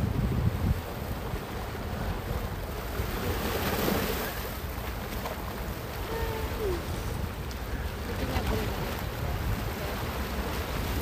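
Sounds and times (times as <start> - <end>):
waves washing over rocks: 0.0 - 11.0
wind buffeting microphone: 0.0 - 11.0.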